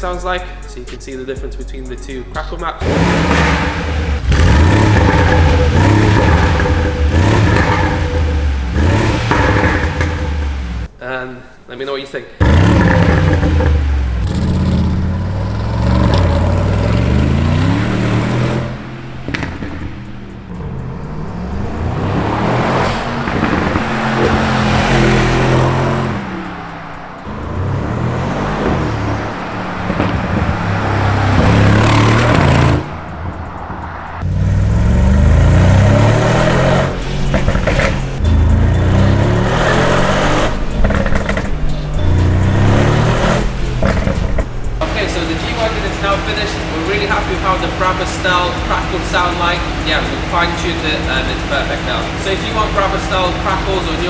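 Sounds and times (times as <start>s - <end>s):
car engine revving: 0.0s - 11.0s, 12.4s - 54.0s
exhaust crackles: 0.0s - 54.0s.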